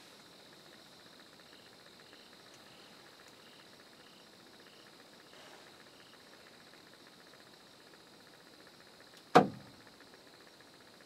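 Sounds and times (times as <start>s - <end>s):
cricket chirps: 0.0s - 11.0s
insect pulsing trill: 0.0s - 11.0s
insects droning: 0.0s - 11.0s.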